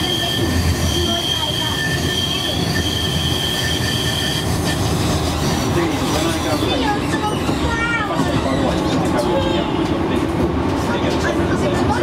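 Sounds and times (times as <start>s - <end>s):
tram running gear rumble: 0.0s - 12.0s
tram wheels squealing: 0.0s - 12.0s.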